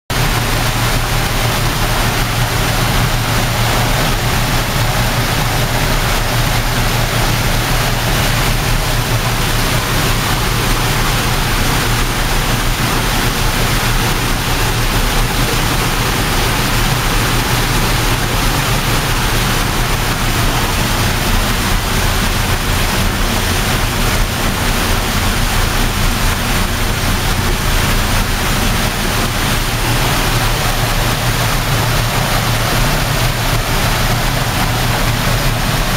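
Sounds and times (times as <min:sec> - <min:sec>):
waterfall splashing into a pool: 0:00.1 - 0:35.9.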